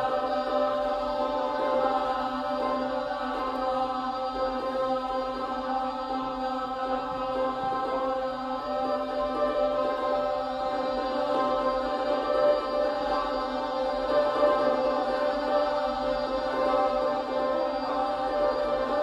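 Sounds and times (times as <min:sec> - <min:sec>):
choir singing a slow chant: 0:00.0 - 0:19.0.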